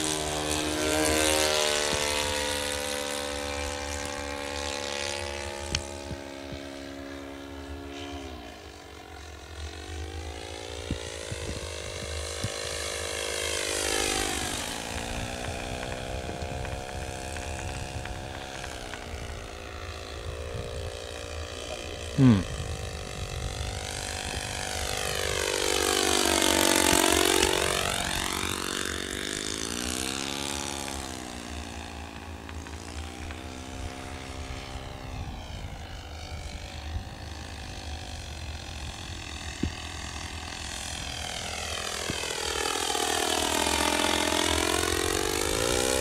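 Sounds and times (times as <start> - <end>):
model airplane engine buzzing: 0.0 - 46.0.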